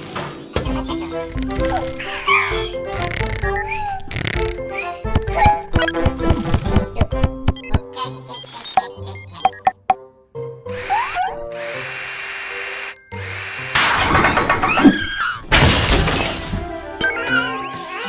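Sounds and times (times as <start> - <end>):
cartoon power tool whirring: 0.0 - 9.8, 10.7 - 18.0
background music: 0.0 - 18.0.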